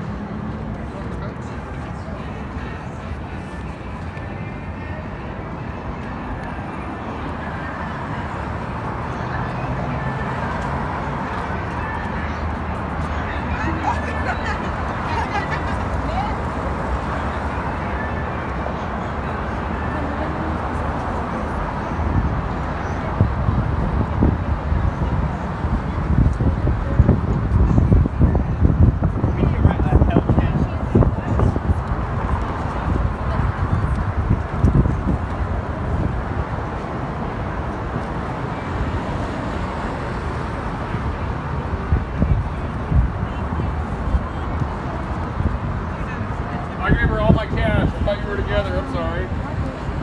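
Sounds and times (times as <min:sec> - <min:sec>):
traffic rumble: 0:00.0 - 0:50.0.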